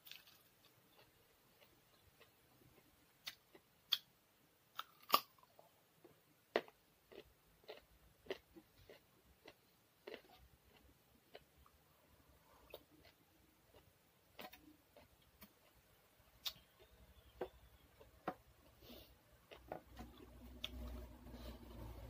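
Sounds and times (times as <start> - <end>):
person chewing and crunching food: 0.0 - 4.1, 4.7 - 22.0.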